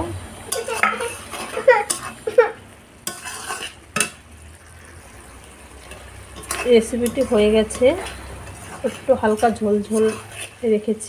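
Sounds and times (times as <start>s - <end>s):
curry sizzling: 0.0s - 11.0s
metal ladle scraping a pan: 0.5s - 11.0s.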